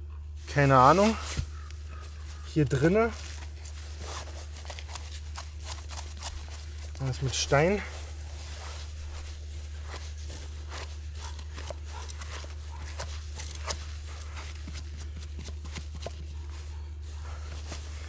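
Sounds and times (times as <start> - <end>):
steady low hum: 0.0 - 18.0
soil and roots pulled by hand: 0.4 - 18.0.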